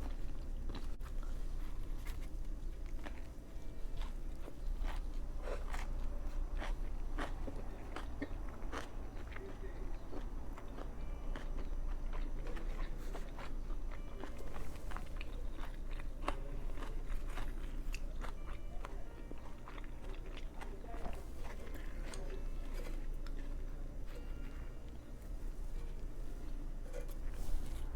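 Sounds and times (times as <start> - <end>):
person chewing with crunches: 0.0 - 27.9.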